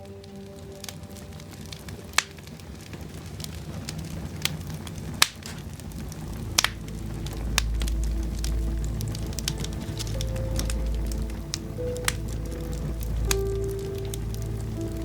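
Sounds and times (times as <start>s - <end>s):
low rumble: 0.0s - 15.0s
wood fire crackling: 0.0s - 15.0s.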